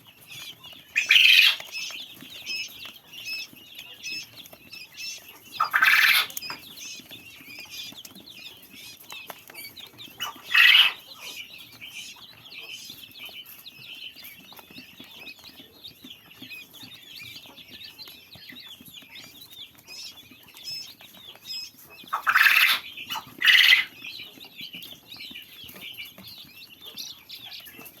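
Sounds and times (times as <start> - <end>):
baby birds cheeping: 0.0 - 28.0.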